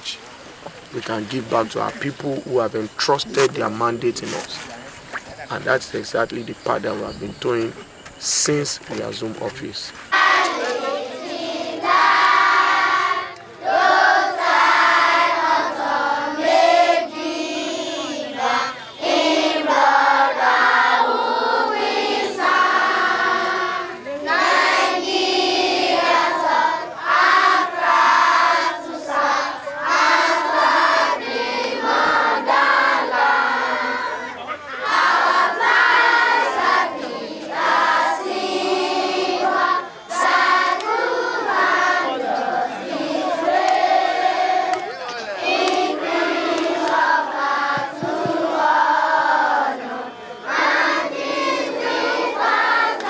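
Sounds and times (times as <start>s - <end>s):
voices singing in chorus: 0.0s - 53.0s.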